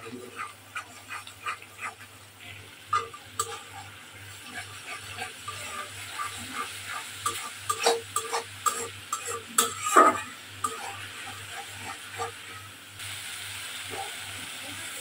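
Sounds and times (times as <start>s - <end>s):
metal spatula scraping wok: 0.0s - 12.8s
oil sizzling: 0.0s - 15.0s.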